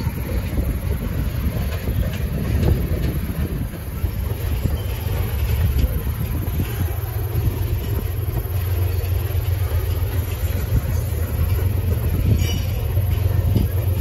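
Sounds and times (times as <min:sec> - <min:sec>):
train cars rolling past: 0:00.0 - 0:14.0
wheels and couplers clicking: 0:00.0 - 0:14.0.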